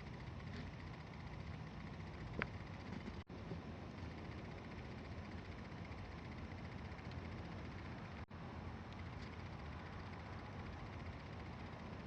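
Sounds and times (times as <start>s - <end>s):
faint background rumble and hiss: 0.0s - 12.0s.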